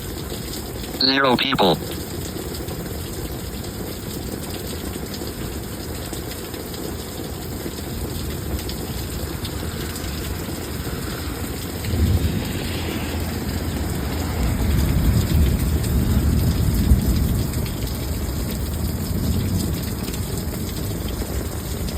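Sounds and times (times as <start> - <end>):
heavy rain: 0.0 - 21.9
running floodwater: 0.0 - 21.9.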